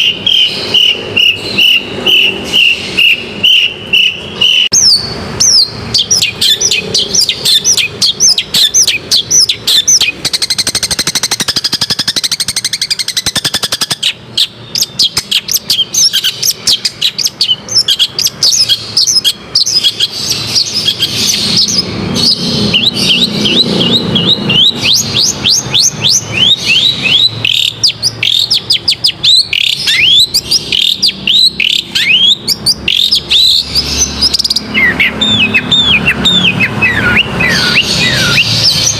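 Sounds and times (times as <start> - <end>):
bird singing sharp chirps: 0.0 - 38.9.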